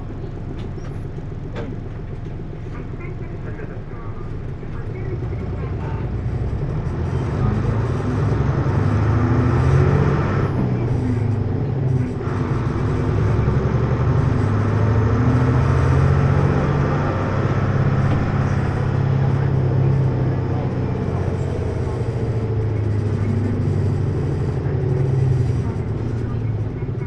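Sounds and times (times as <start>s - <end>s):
bus diesel engine drone: 0.0s - 27.0s.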